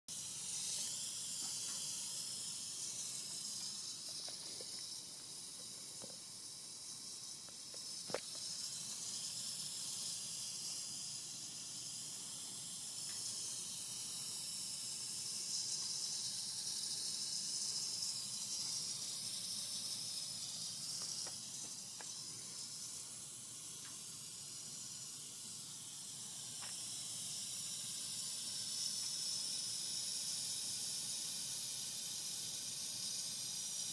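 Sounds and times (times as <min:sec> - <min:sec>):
high-pitched hissing from car: 0:00.1 - 0:33.9.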